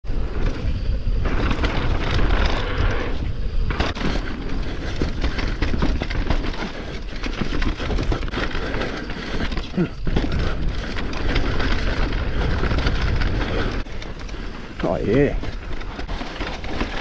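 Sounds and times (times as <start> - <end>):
bike rattling over bumps: 0.0 - 17.0
wind buffeting microphone: 0.0 - 17.0.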